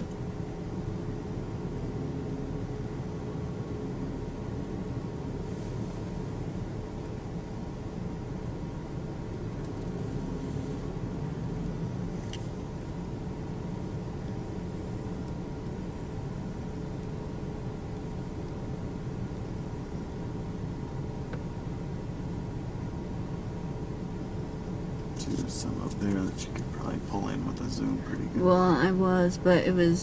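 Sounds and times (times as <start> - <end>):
car engine rumble from inside: 0.0 - 30.0
faint steady hum: 0.0 - 30.0.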